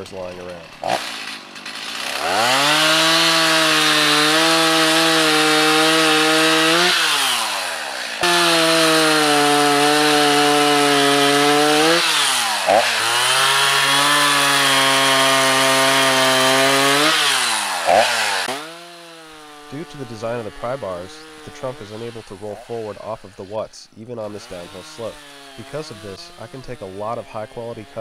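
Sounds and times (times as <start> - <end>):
chainsaw cutting tree trunk: 0.0 - 28.0.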